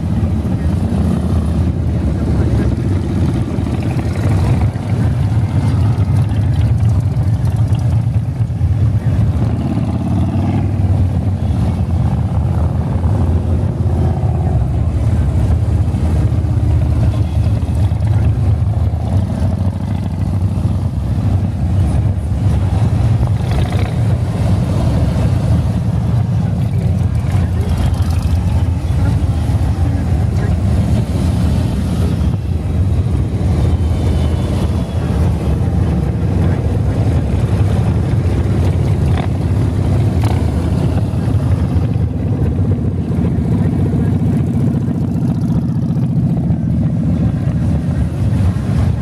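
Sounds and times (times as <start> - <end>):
motorcycle engines rumbling past: 0.0 - 49.0.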